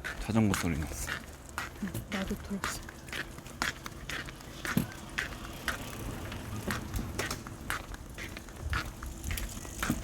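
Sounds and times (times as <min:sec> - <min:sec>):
footsteps on a path: 0:00.0 - 0:10.0.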